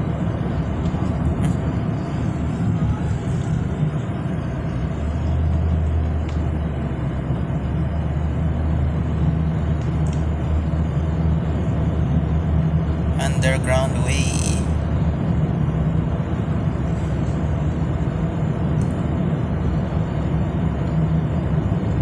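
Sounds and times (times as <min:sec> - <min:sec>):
deep low rumble: 0:00.0 - 0:22.0
engine and tyre drone: 0:00.0 - 0:22.0.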